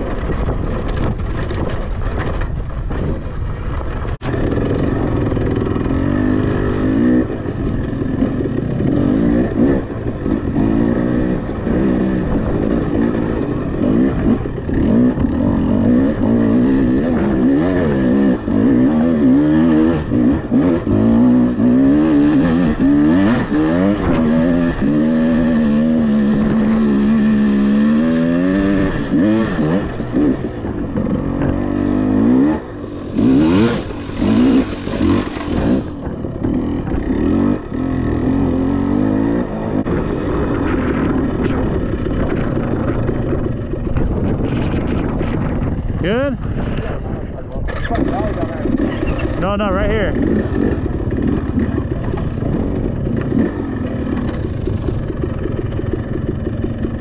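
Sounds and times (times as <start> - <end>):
dirt bike engine revving: 4.2 - 46.2, 47.8 - 57.0.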